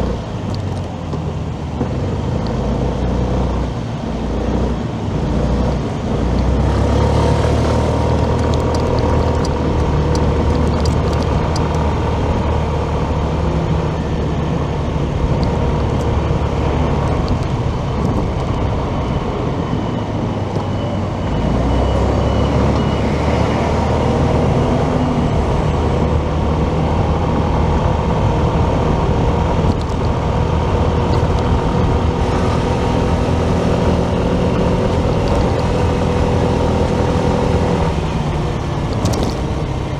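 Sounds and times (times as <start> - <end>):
motorcycle engine running: 0.0 - 21.0, 25.5 - 39.9
road noise: 0.0 - 39.9.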